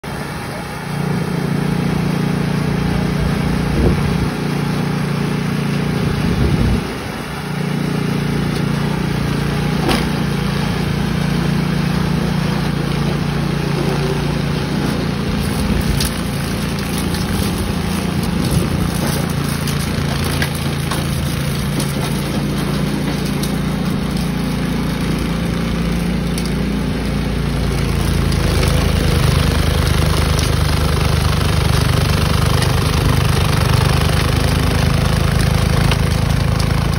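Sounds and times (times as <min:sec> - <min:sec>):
snowblower engine running: 0:00.0 - 0:36.9.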